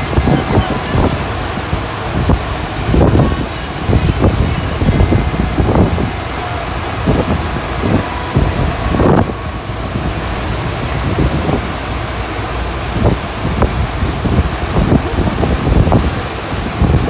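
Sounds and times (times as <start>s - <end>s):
rushing water: 0.0s - 17.0s
wind buffeting microphone: 0.0s - 17.0s.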